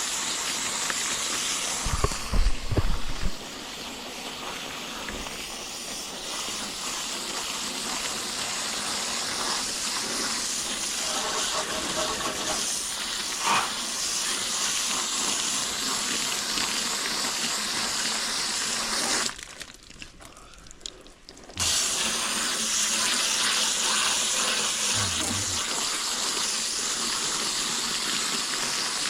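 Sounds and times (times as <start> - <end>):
hose spraying water on coil: 0.0 - 19.4, 21.6 - 29.0.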